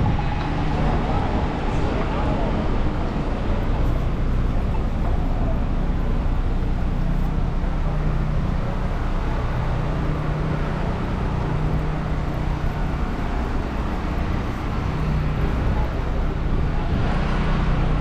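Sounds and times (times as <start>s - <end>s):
street hum: 0.0s - 18.0s
vehicle engine drone: 0.0s - 18.0s.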